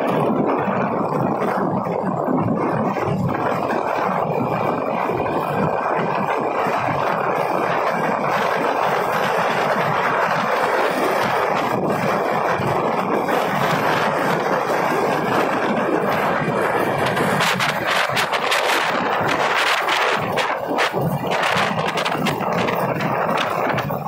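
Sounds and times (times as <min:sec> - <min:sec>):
road noise: 0:00.0 - 0:24.0
wind buffeting microphone: 0:00.0 - 0:24.0
wind rushing: 0:00.0 - 0:24.0.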